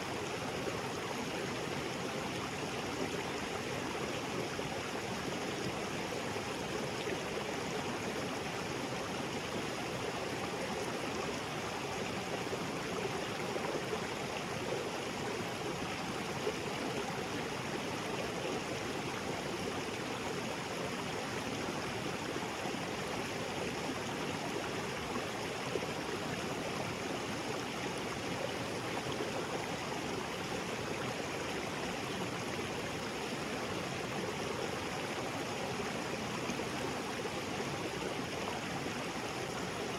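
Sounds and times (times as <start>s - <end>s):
waterfall spilling into creek: 0.0s - 39.9s.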